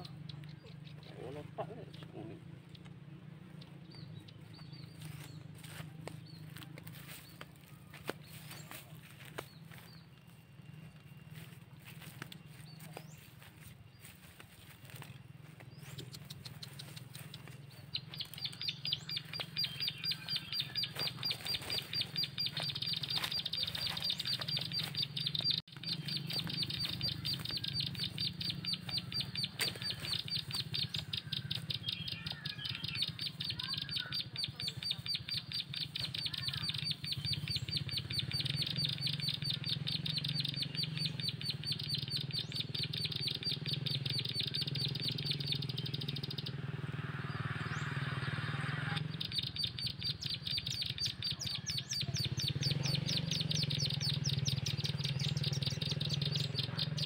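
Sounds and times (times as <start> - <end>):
other bird calls: 0.0 - 57.0
fast high bird chirping: 3.5 - 57.0.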